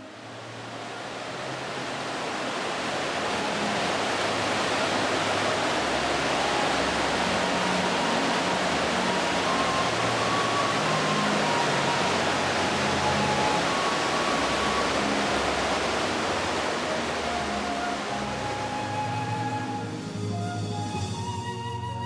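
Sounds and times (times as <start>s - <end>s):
faint music melody: 0.0s - 22.0s.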